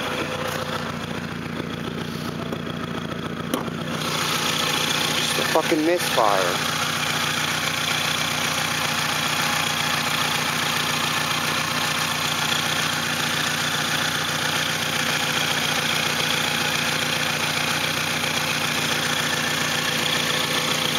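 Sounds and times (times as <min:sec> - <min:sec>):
car engine idling with misfire: 0:00.0 - 0:20.9.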